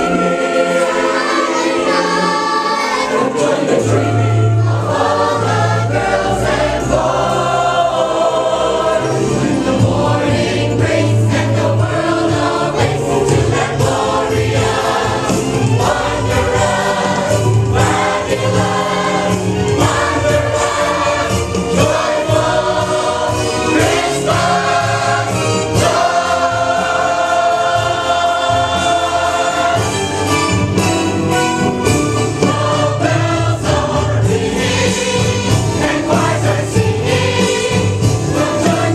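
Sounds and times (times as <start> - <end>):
church choir singing: 0.0 - 38.9
instrumental accompaniment with bass: 0.0 - 38.9.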